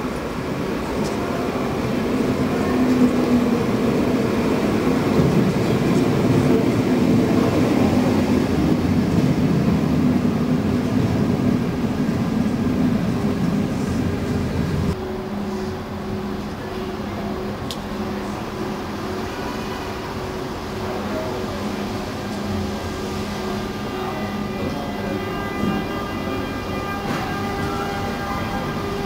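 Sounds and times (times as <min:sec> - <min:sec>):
electric train slowing to a stop: 0:00.0 - 0:29.0.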